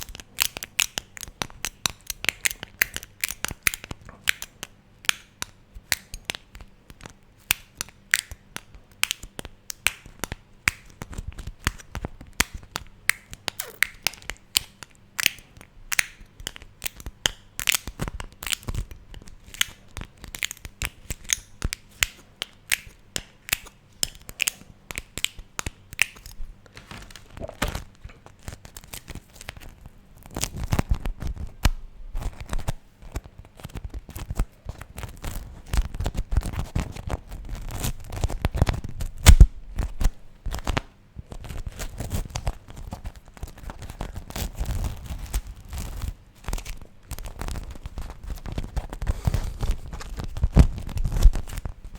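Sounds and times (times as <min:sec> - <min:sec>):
wax wrap crackling and peeling: 0:06.3 - 0:51.9.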